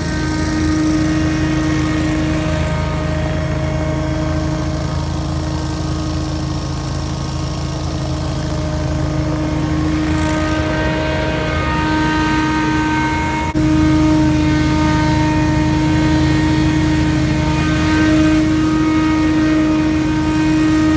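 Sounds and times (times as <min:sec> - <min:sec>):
fan whine: 0:00.0 - 0:20.9
leaf blower engine drone: 0:00.0 - 0:20.9.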